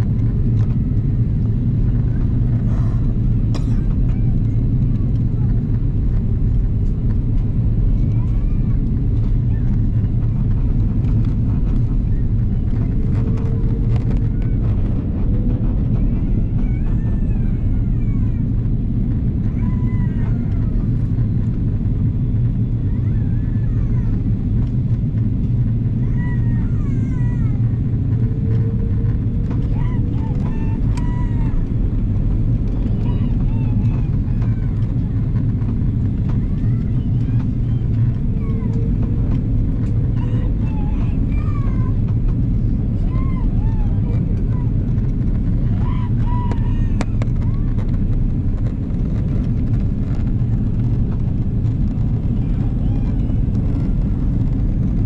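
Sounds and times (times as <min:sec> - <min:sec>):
airliner cabin rumble: 0:00.0 - 0:55.0
faint voices: 0:00.2 - 0:55.0.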